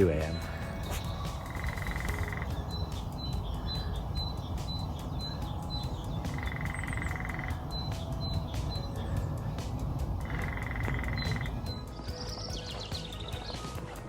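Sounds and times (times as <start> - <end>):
bird calling high note: 0.0 - 11.9
buzzy bird trill: 0.0 - 13.6.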